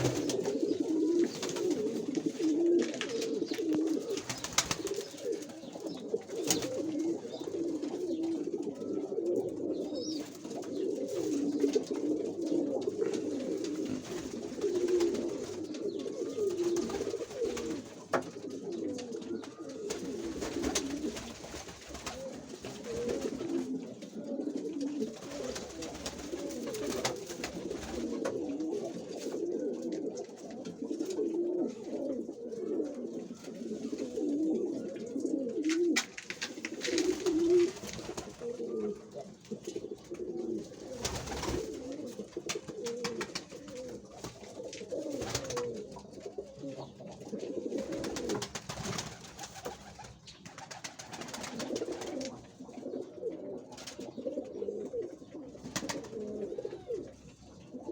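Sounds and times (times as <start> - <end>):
pigeons cooing: 0.0 - 57.9.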